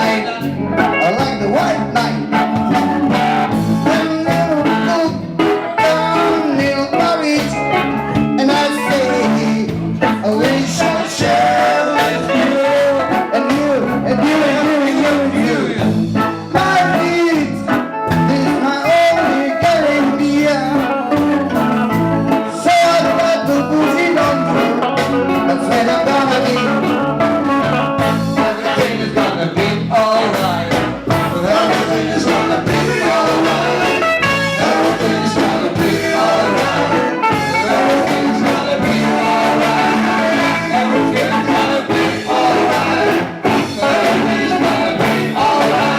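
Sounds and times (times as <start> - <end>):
person singing: 0.0 - 15.9, 16.5 - 27.0, 28.1 - 45.9
guitar: 0.0 - 45.9
live reggae band playing: 0.0 - 45.9.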